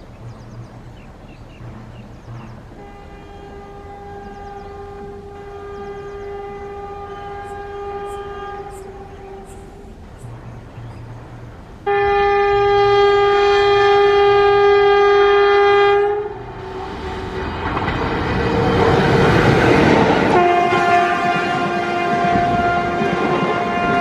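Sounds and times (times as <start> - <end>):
train rushing past: 0.0 - 24.0
train horn blasting: 1.6 - 24.0.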